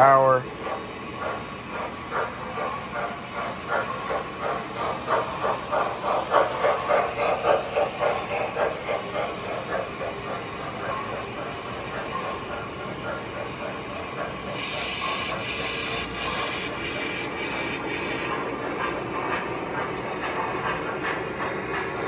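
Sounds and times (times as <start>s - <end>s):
model locomotive chuffing: 0.0s - 22.0s
model trains running on track: 0.0s - 22.0s.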